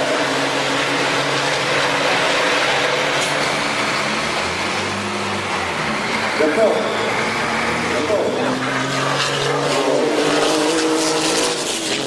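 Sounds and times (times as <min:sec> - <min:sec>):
truck diesel engines droning: 0:00.0 - 0:12.0.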